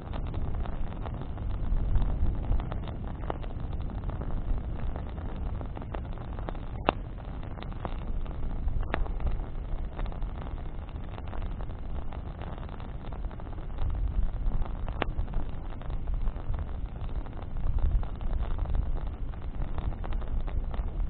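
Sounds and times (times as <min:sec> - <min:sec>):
campfire burning: 0:00.0 - 0:21.0
crackles and pops of fire: 0:00.0 - 0:21.0.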